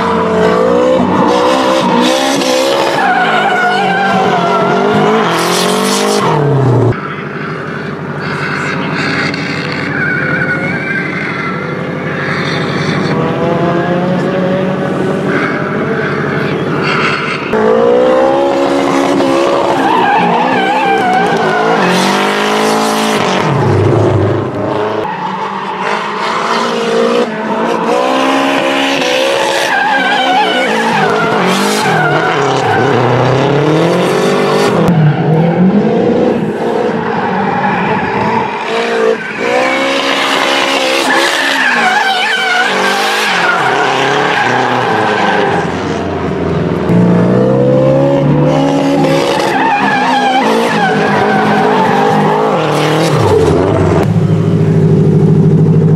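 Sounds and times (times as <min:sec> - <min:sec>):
tyres squealing on asphalt: 0:00.0 - 0:13.4, 0:14.9 - 0:46.2, 0:48.3 - 0:54.1
car engine revving: 0:00.0 - 0:55.9.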